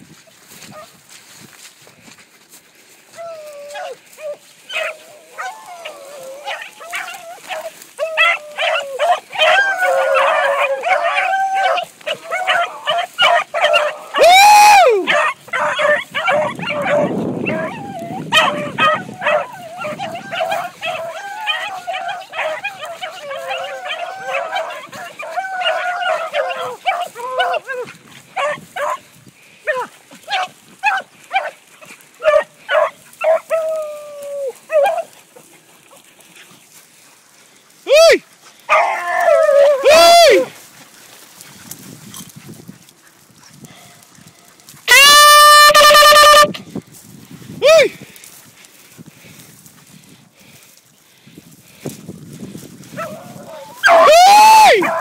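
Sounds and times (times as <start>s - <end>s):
hounds baying: 3.1s - 46.5s, 52.8s - 55.0s.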